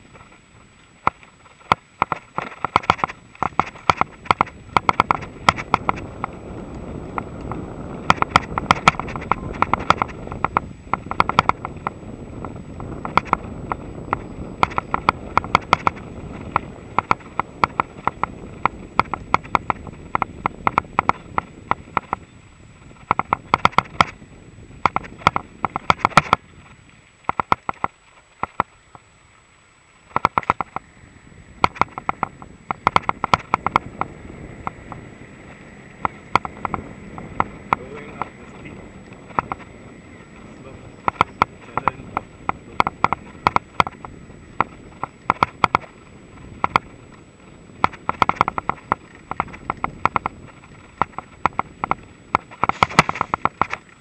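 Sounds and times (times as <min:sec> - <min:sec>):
bike rattling over bumps: 0:00.0 - 0:29.1, 0:30.0 - 0:54.0
wind: 0:00.0 - 0:54.0
tyres rumbling on dirt: 0:01.4 - 0:27.9, 0:30.0 - 0:54.0.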